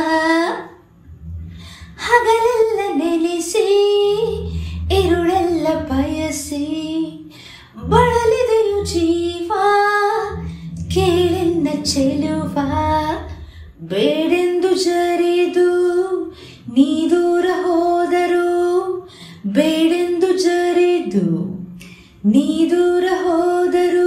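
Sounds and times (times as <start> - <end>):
low steady accompaniment: 0.0 - 24.0
woman singing with vibrato: 0.0 - 24.0.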